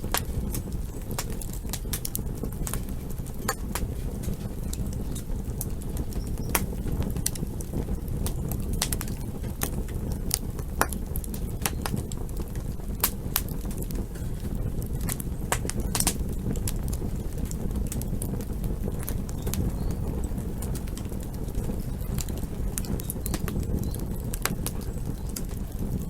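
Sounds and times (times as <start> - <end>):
campfire pops and snaps: 0.0 - 14.3, 14.9 - 19.7, 20.6 - 25.6.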